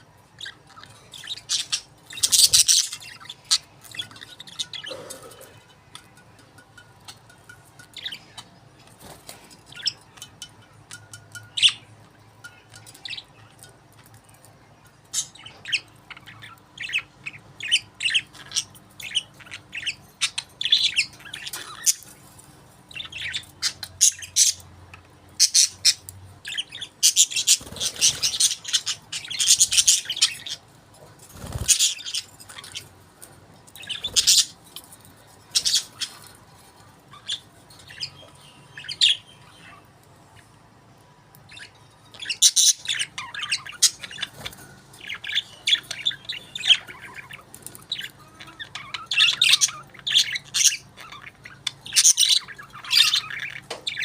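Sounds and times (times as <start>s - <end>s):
budgerigars chirping and chattering: 0.0s - 40.5s, 41.4s - 54.0s.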